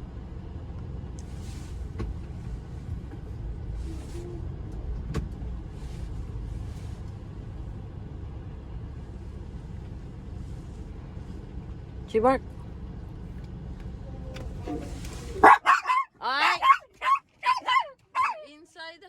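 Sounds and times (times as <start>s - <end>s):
car engine rumble from inside: 0.0s - 19.0s.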